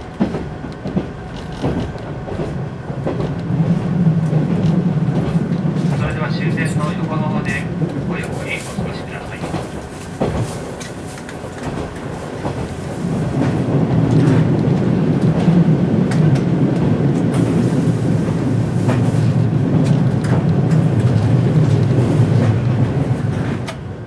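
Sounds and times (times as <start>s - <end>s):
train rolling rumble: 0.0s - 24.0s.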